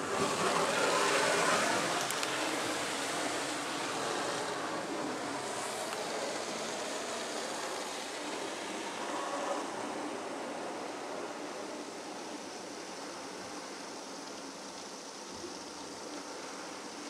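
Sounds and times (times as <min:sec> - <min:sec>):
car wash machinery: 0:00.0 - 0:14.9
water spray rushing: 0:00.0 - 0:17.0.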